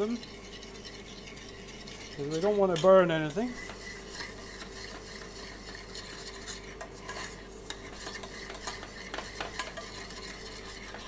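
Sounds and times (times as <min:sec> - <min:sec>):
spoon scraping saucepan: 0:00.0 - 0:11.0.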